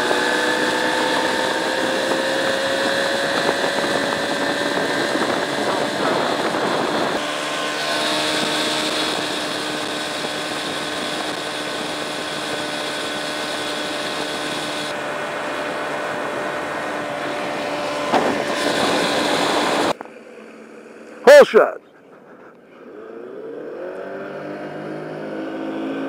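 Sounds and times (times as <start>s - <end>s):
outboard motor running: 0.0s - 21.3s.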